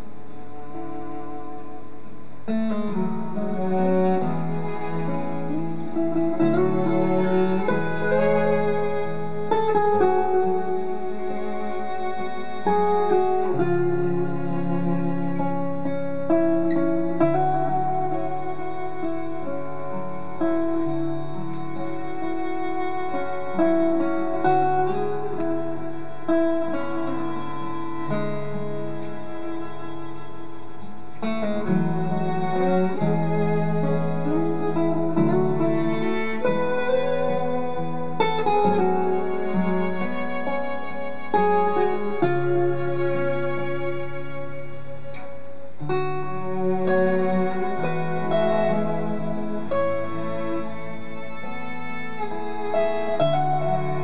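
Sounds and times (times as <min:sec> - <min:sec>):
acoustic guitars: 0:00.0 - 0:54.0
bowed violin and cello: 0:00.0 - 0:54.0.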